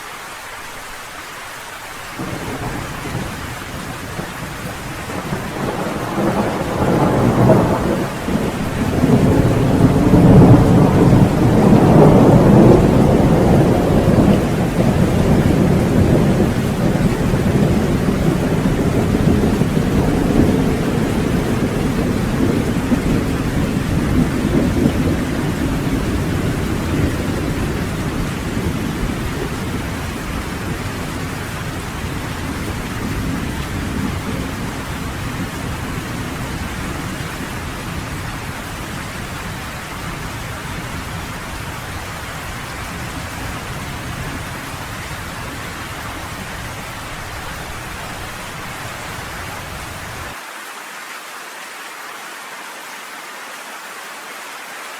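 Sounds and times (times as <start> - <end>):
steady rain: 0.0 - 54.9
thunder rolling: 2.2 - 50.4.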